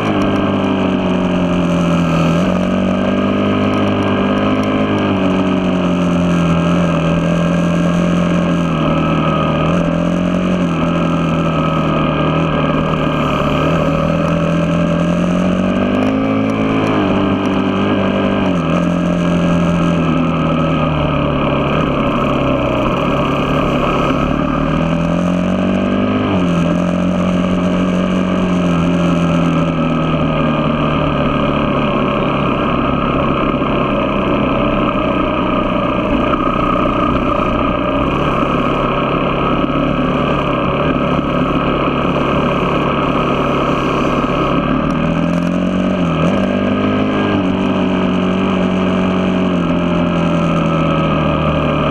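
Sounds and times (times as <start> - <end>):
vehicle engine revving and shifting: 0.0 - 51.9.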